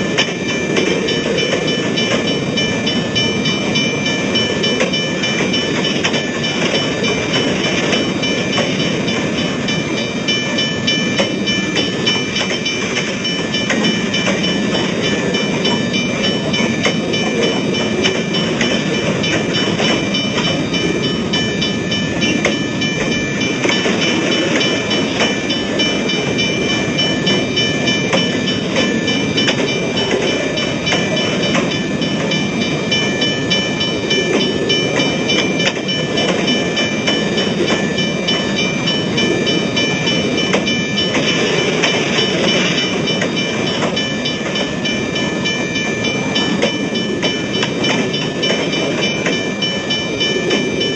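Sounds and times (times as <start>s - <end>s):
level-crossing warning bell ringing: 0.0s - 50.9s.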